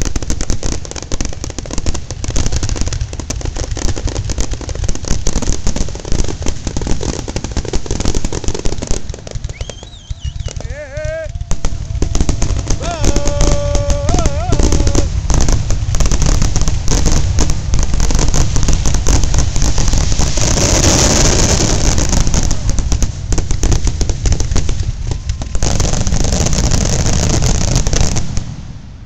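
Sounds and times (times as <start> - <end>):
fireworks bangs and crackles: 0.0 - 29.0
hissing crackle: 0.0 - 29.0.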